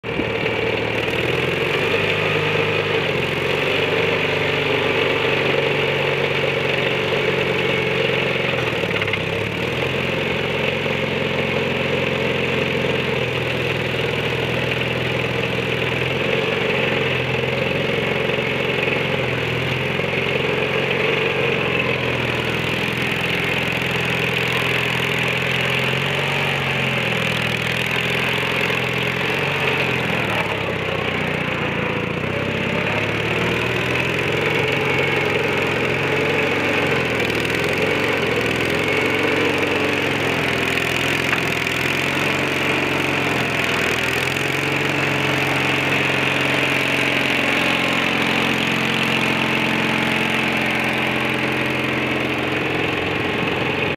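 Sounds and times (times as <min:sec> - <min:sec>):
skid steer loader engine running: 0:00.0 - 0:53.9.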